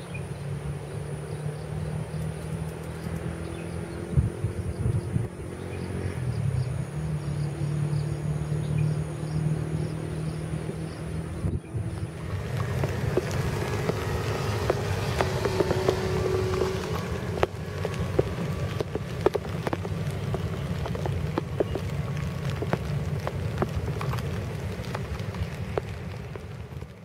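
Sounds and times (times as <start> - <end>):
rain drops pattering on a surface: 0.0 - 27.0
turboprop engines rumbling: 0.0 - 27.0.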